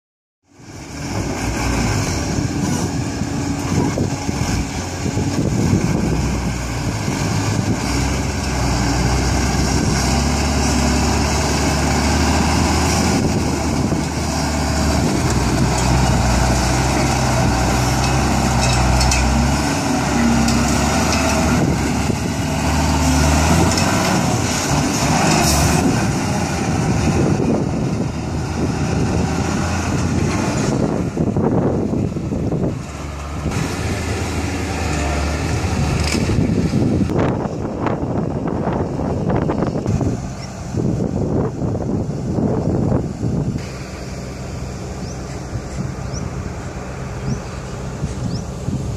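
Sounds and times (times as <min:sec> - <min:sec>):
heavy diesel engines running: 0:00.4 - 0:48.9.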